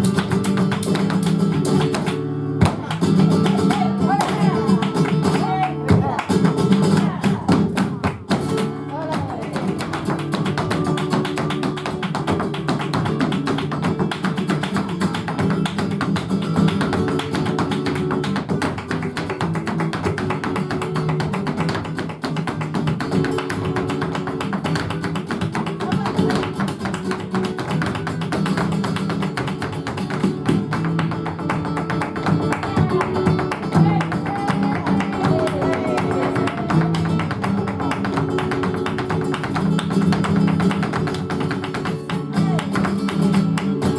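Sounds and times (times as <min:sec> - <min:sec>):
dancer's footwork tapping: 0:00.0 - 0:43.9
flamenco guitar playing: 0:00.0 - 0:43.9.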